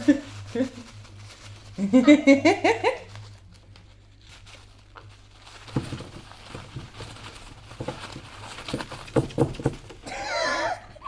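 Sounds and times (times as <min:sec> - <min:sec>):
bird tearing paper towel: 0:00.0 - 0:10.1.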